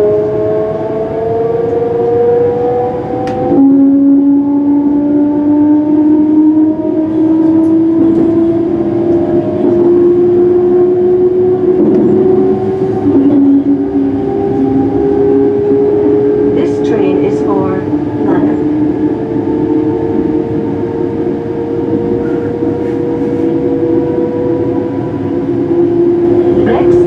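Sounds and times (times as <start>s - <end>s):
train traction motors whining: 0.0s - 27.0s
wheel and rail rumble: 0.0s - 27.0s.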